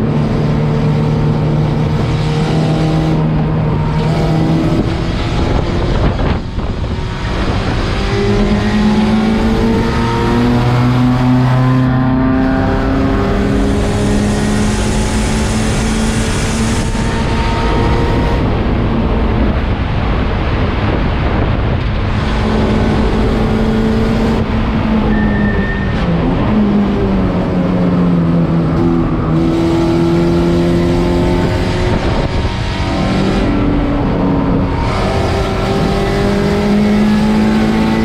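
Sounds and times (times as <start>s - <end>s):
race car engine: 0.0s - 38.0s
wind and road noise: 0.0s - 38.0s.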